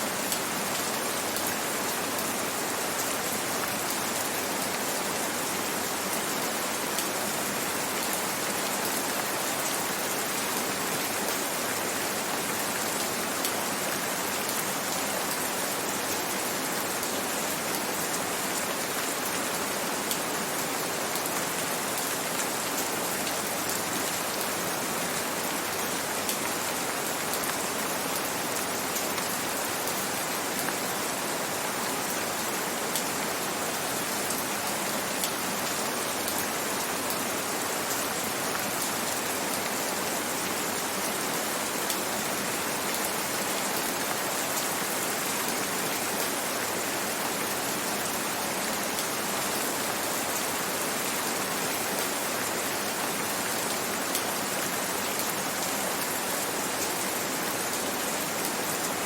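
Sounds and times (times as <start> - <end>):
gentle rain hiss: 0.0 - 59.0.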